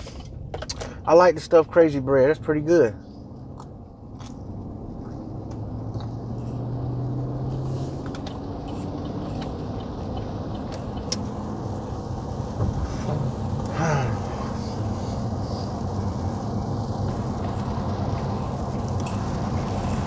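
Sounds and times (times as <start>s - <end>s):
road noise: 0.0s - 20.0s
truck engine hum: 0.0s - 20.0s.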